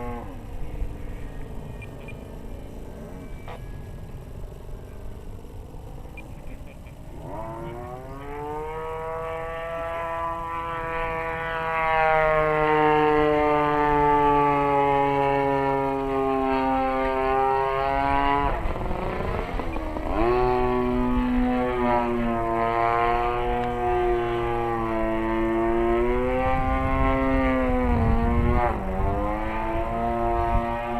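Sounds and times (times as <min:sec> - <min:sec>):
model plane engine revving: 0:00.0 - 0:30.9.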